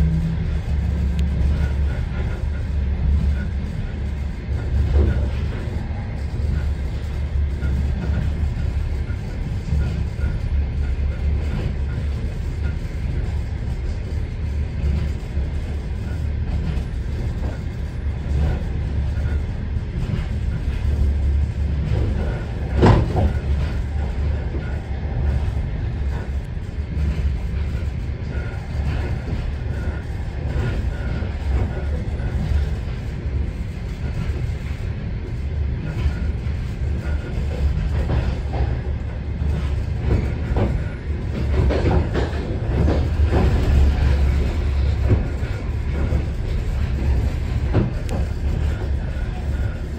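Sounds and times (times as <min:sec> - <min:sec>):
train rumble inside carriage: 0:00.0 - 0:49.9.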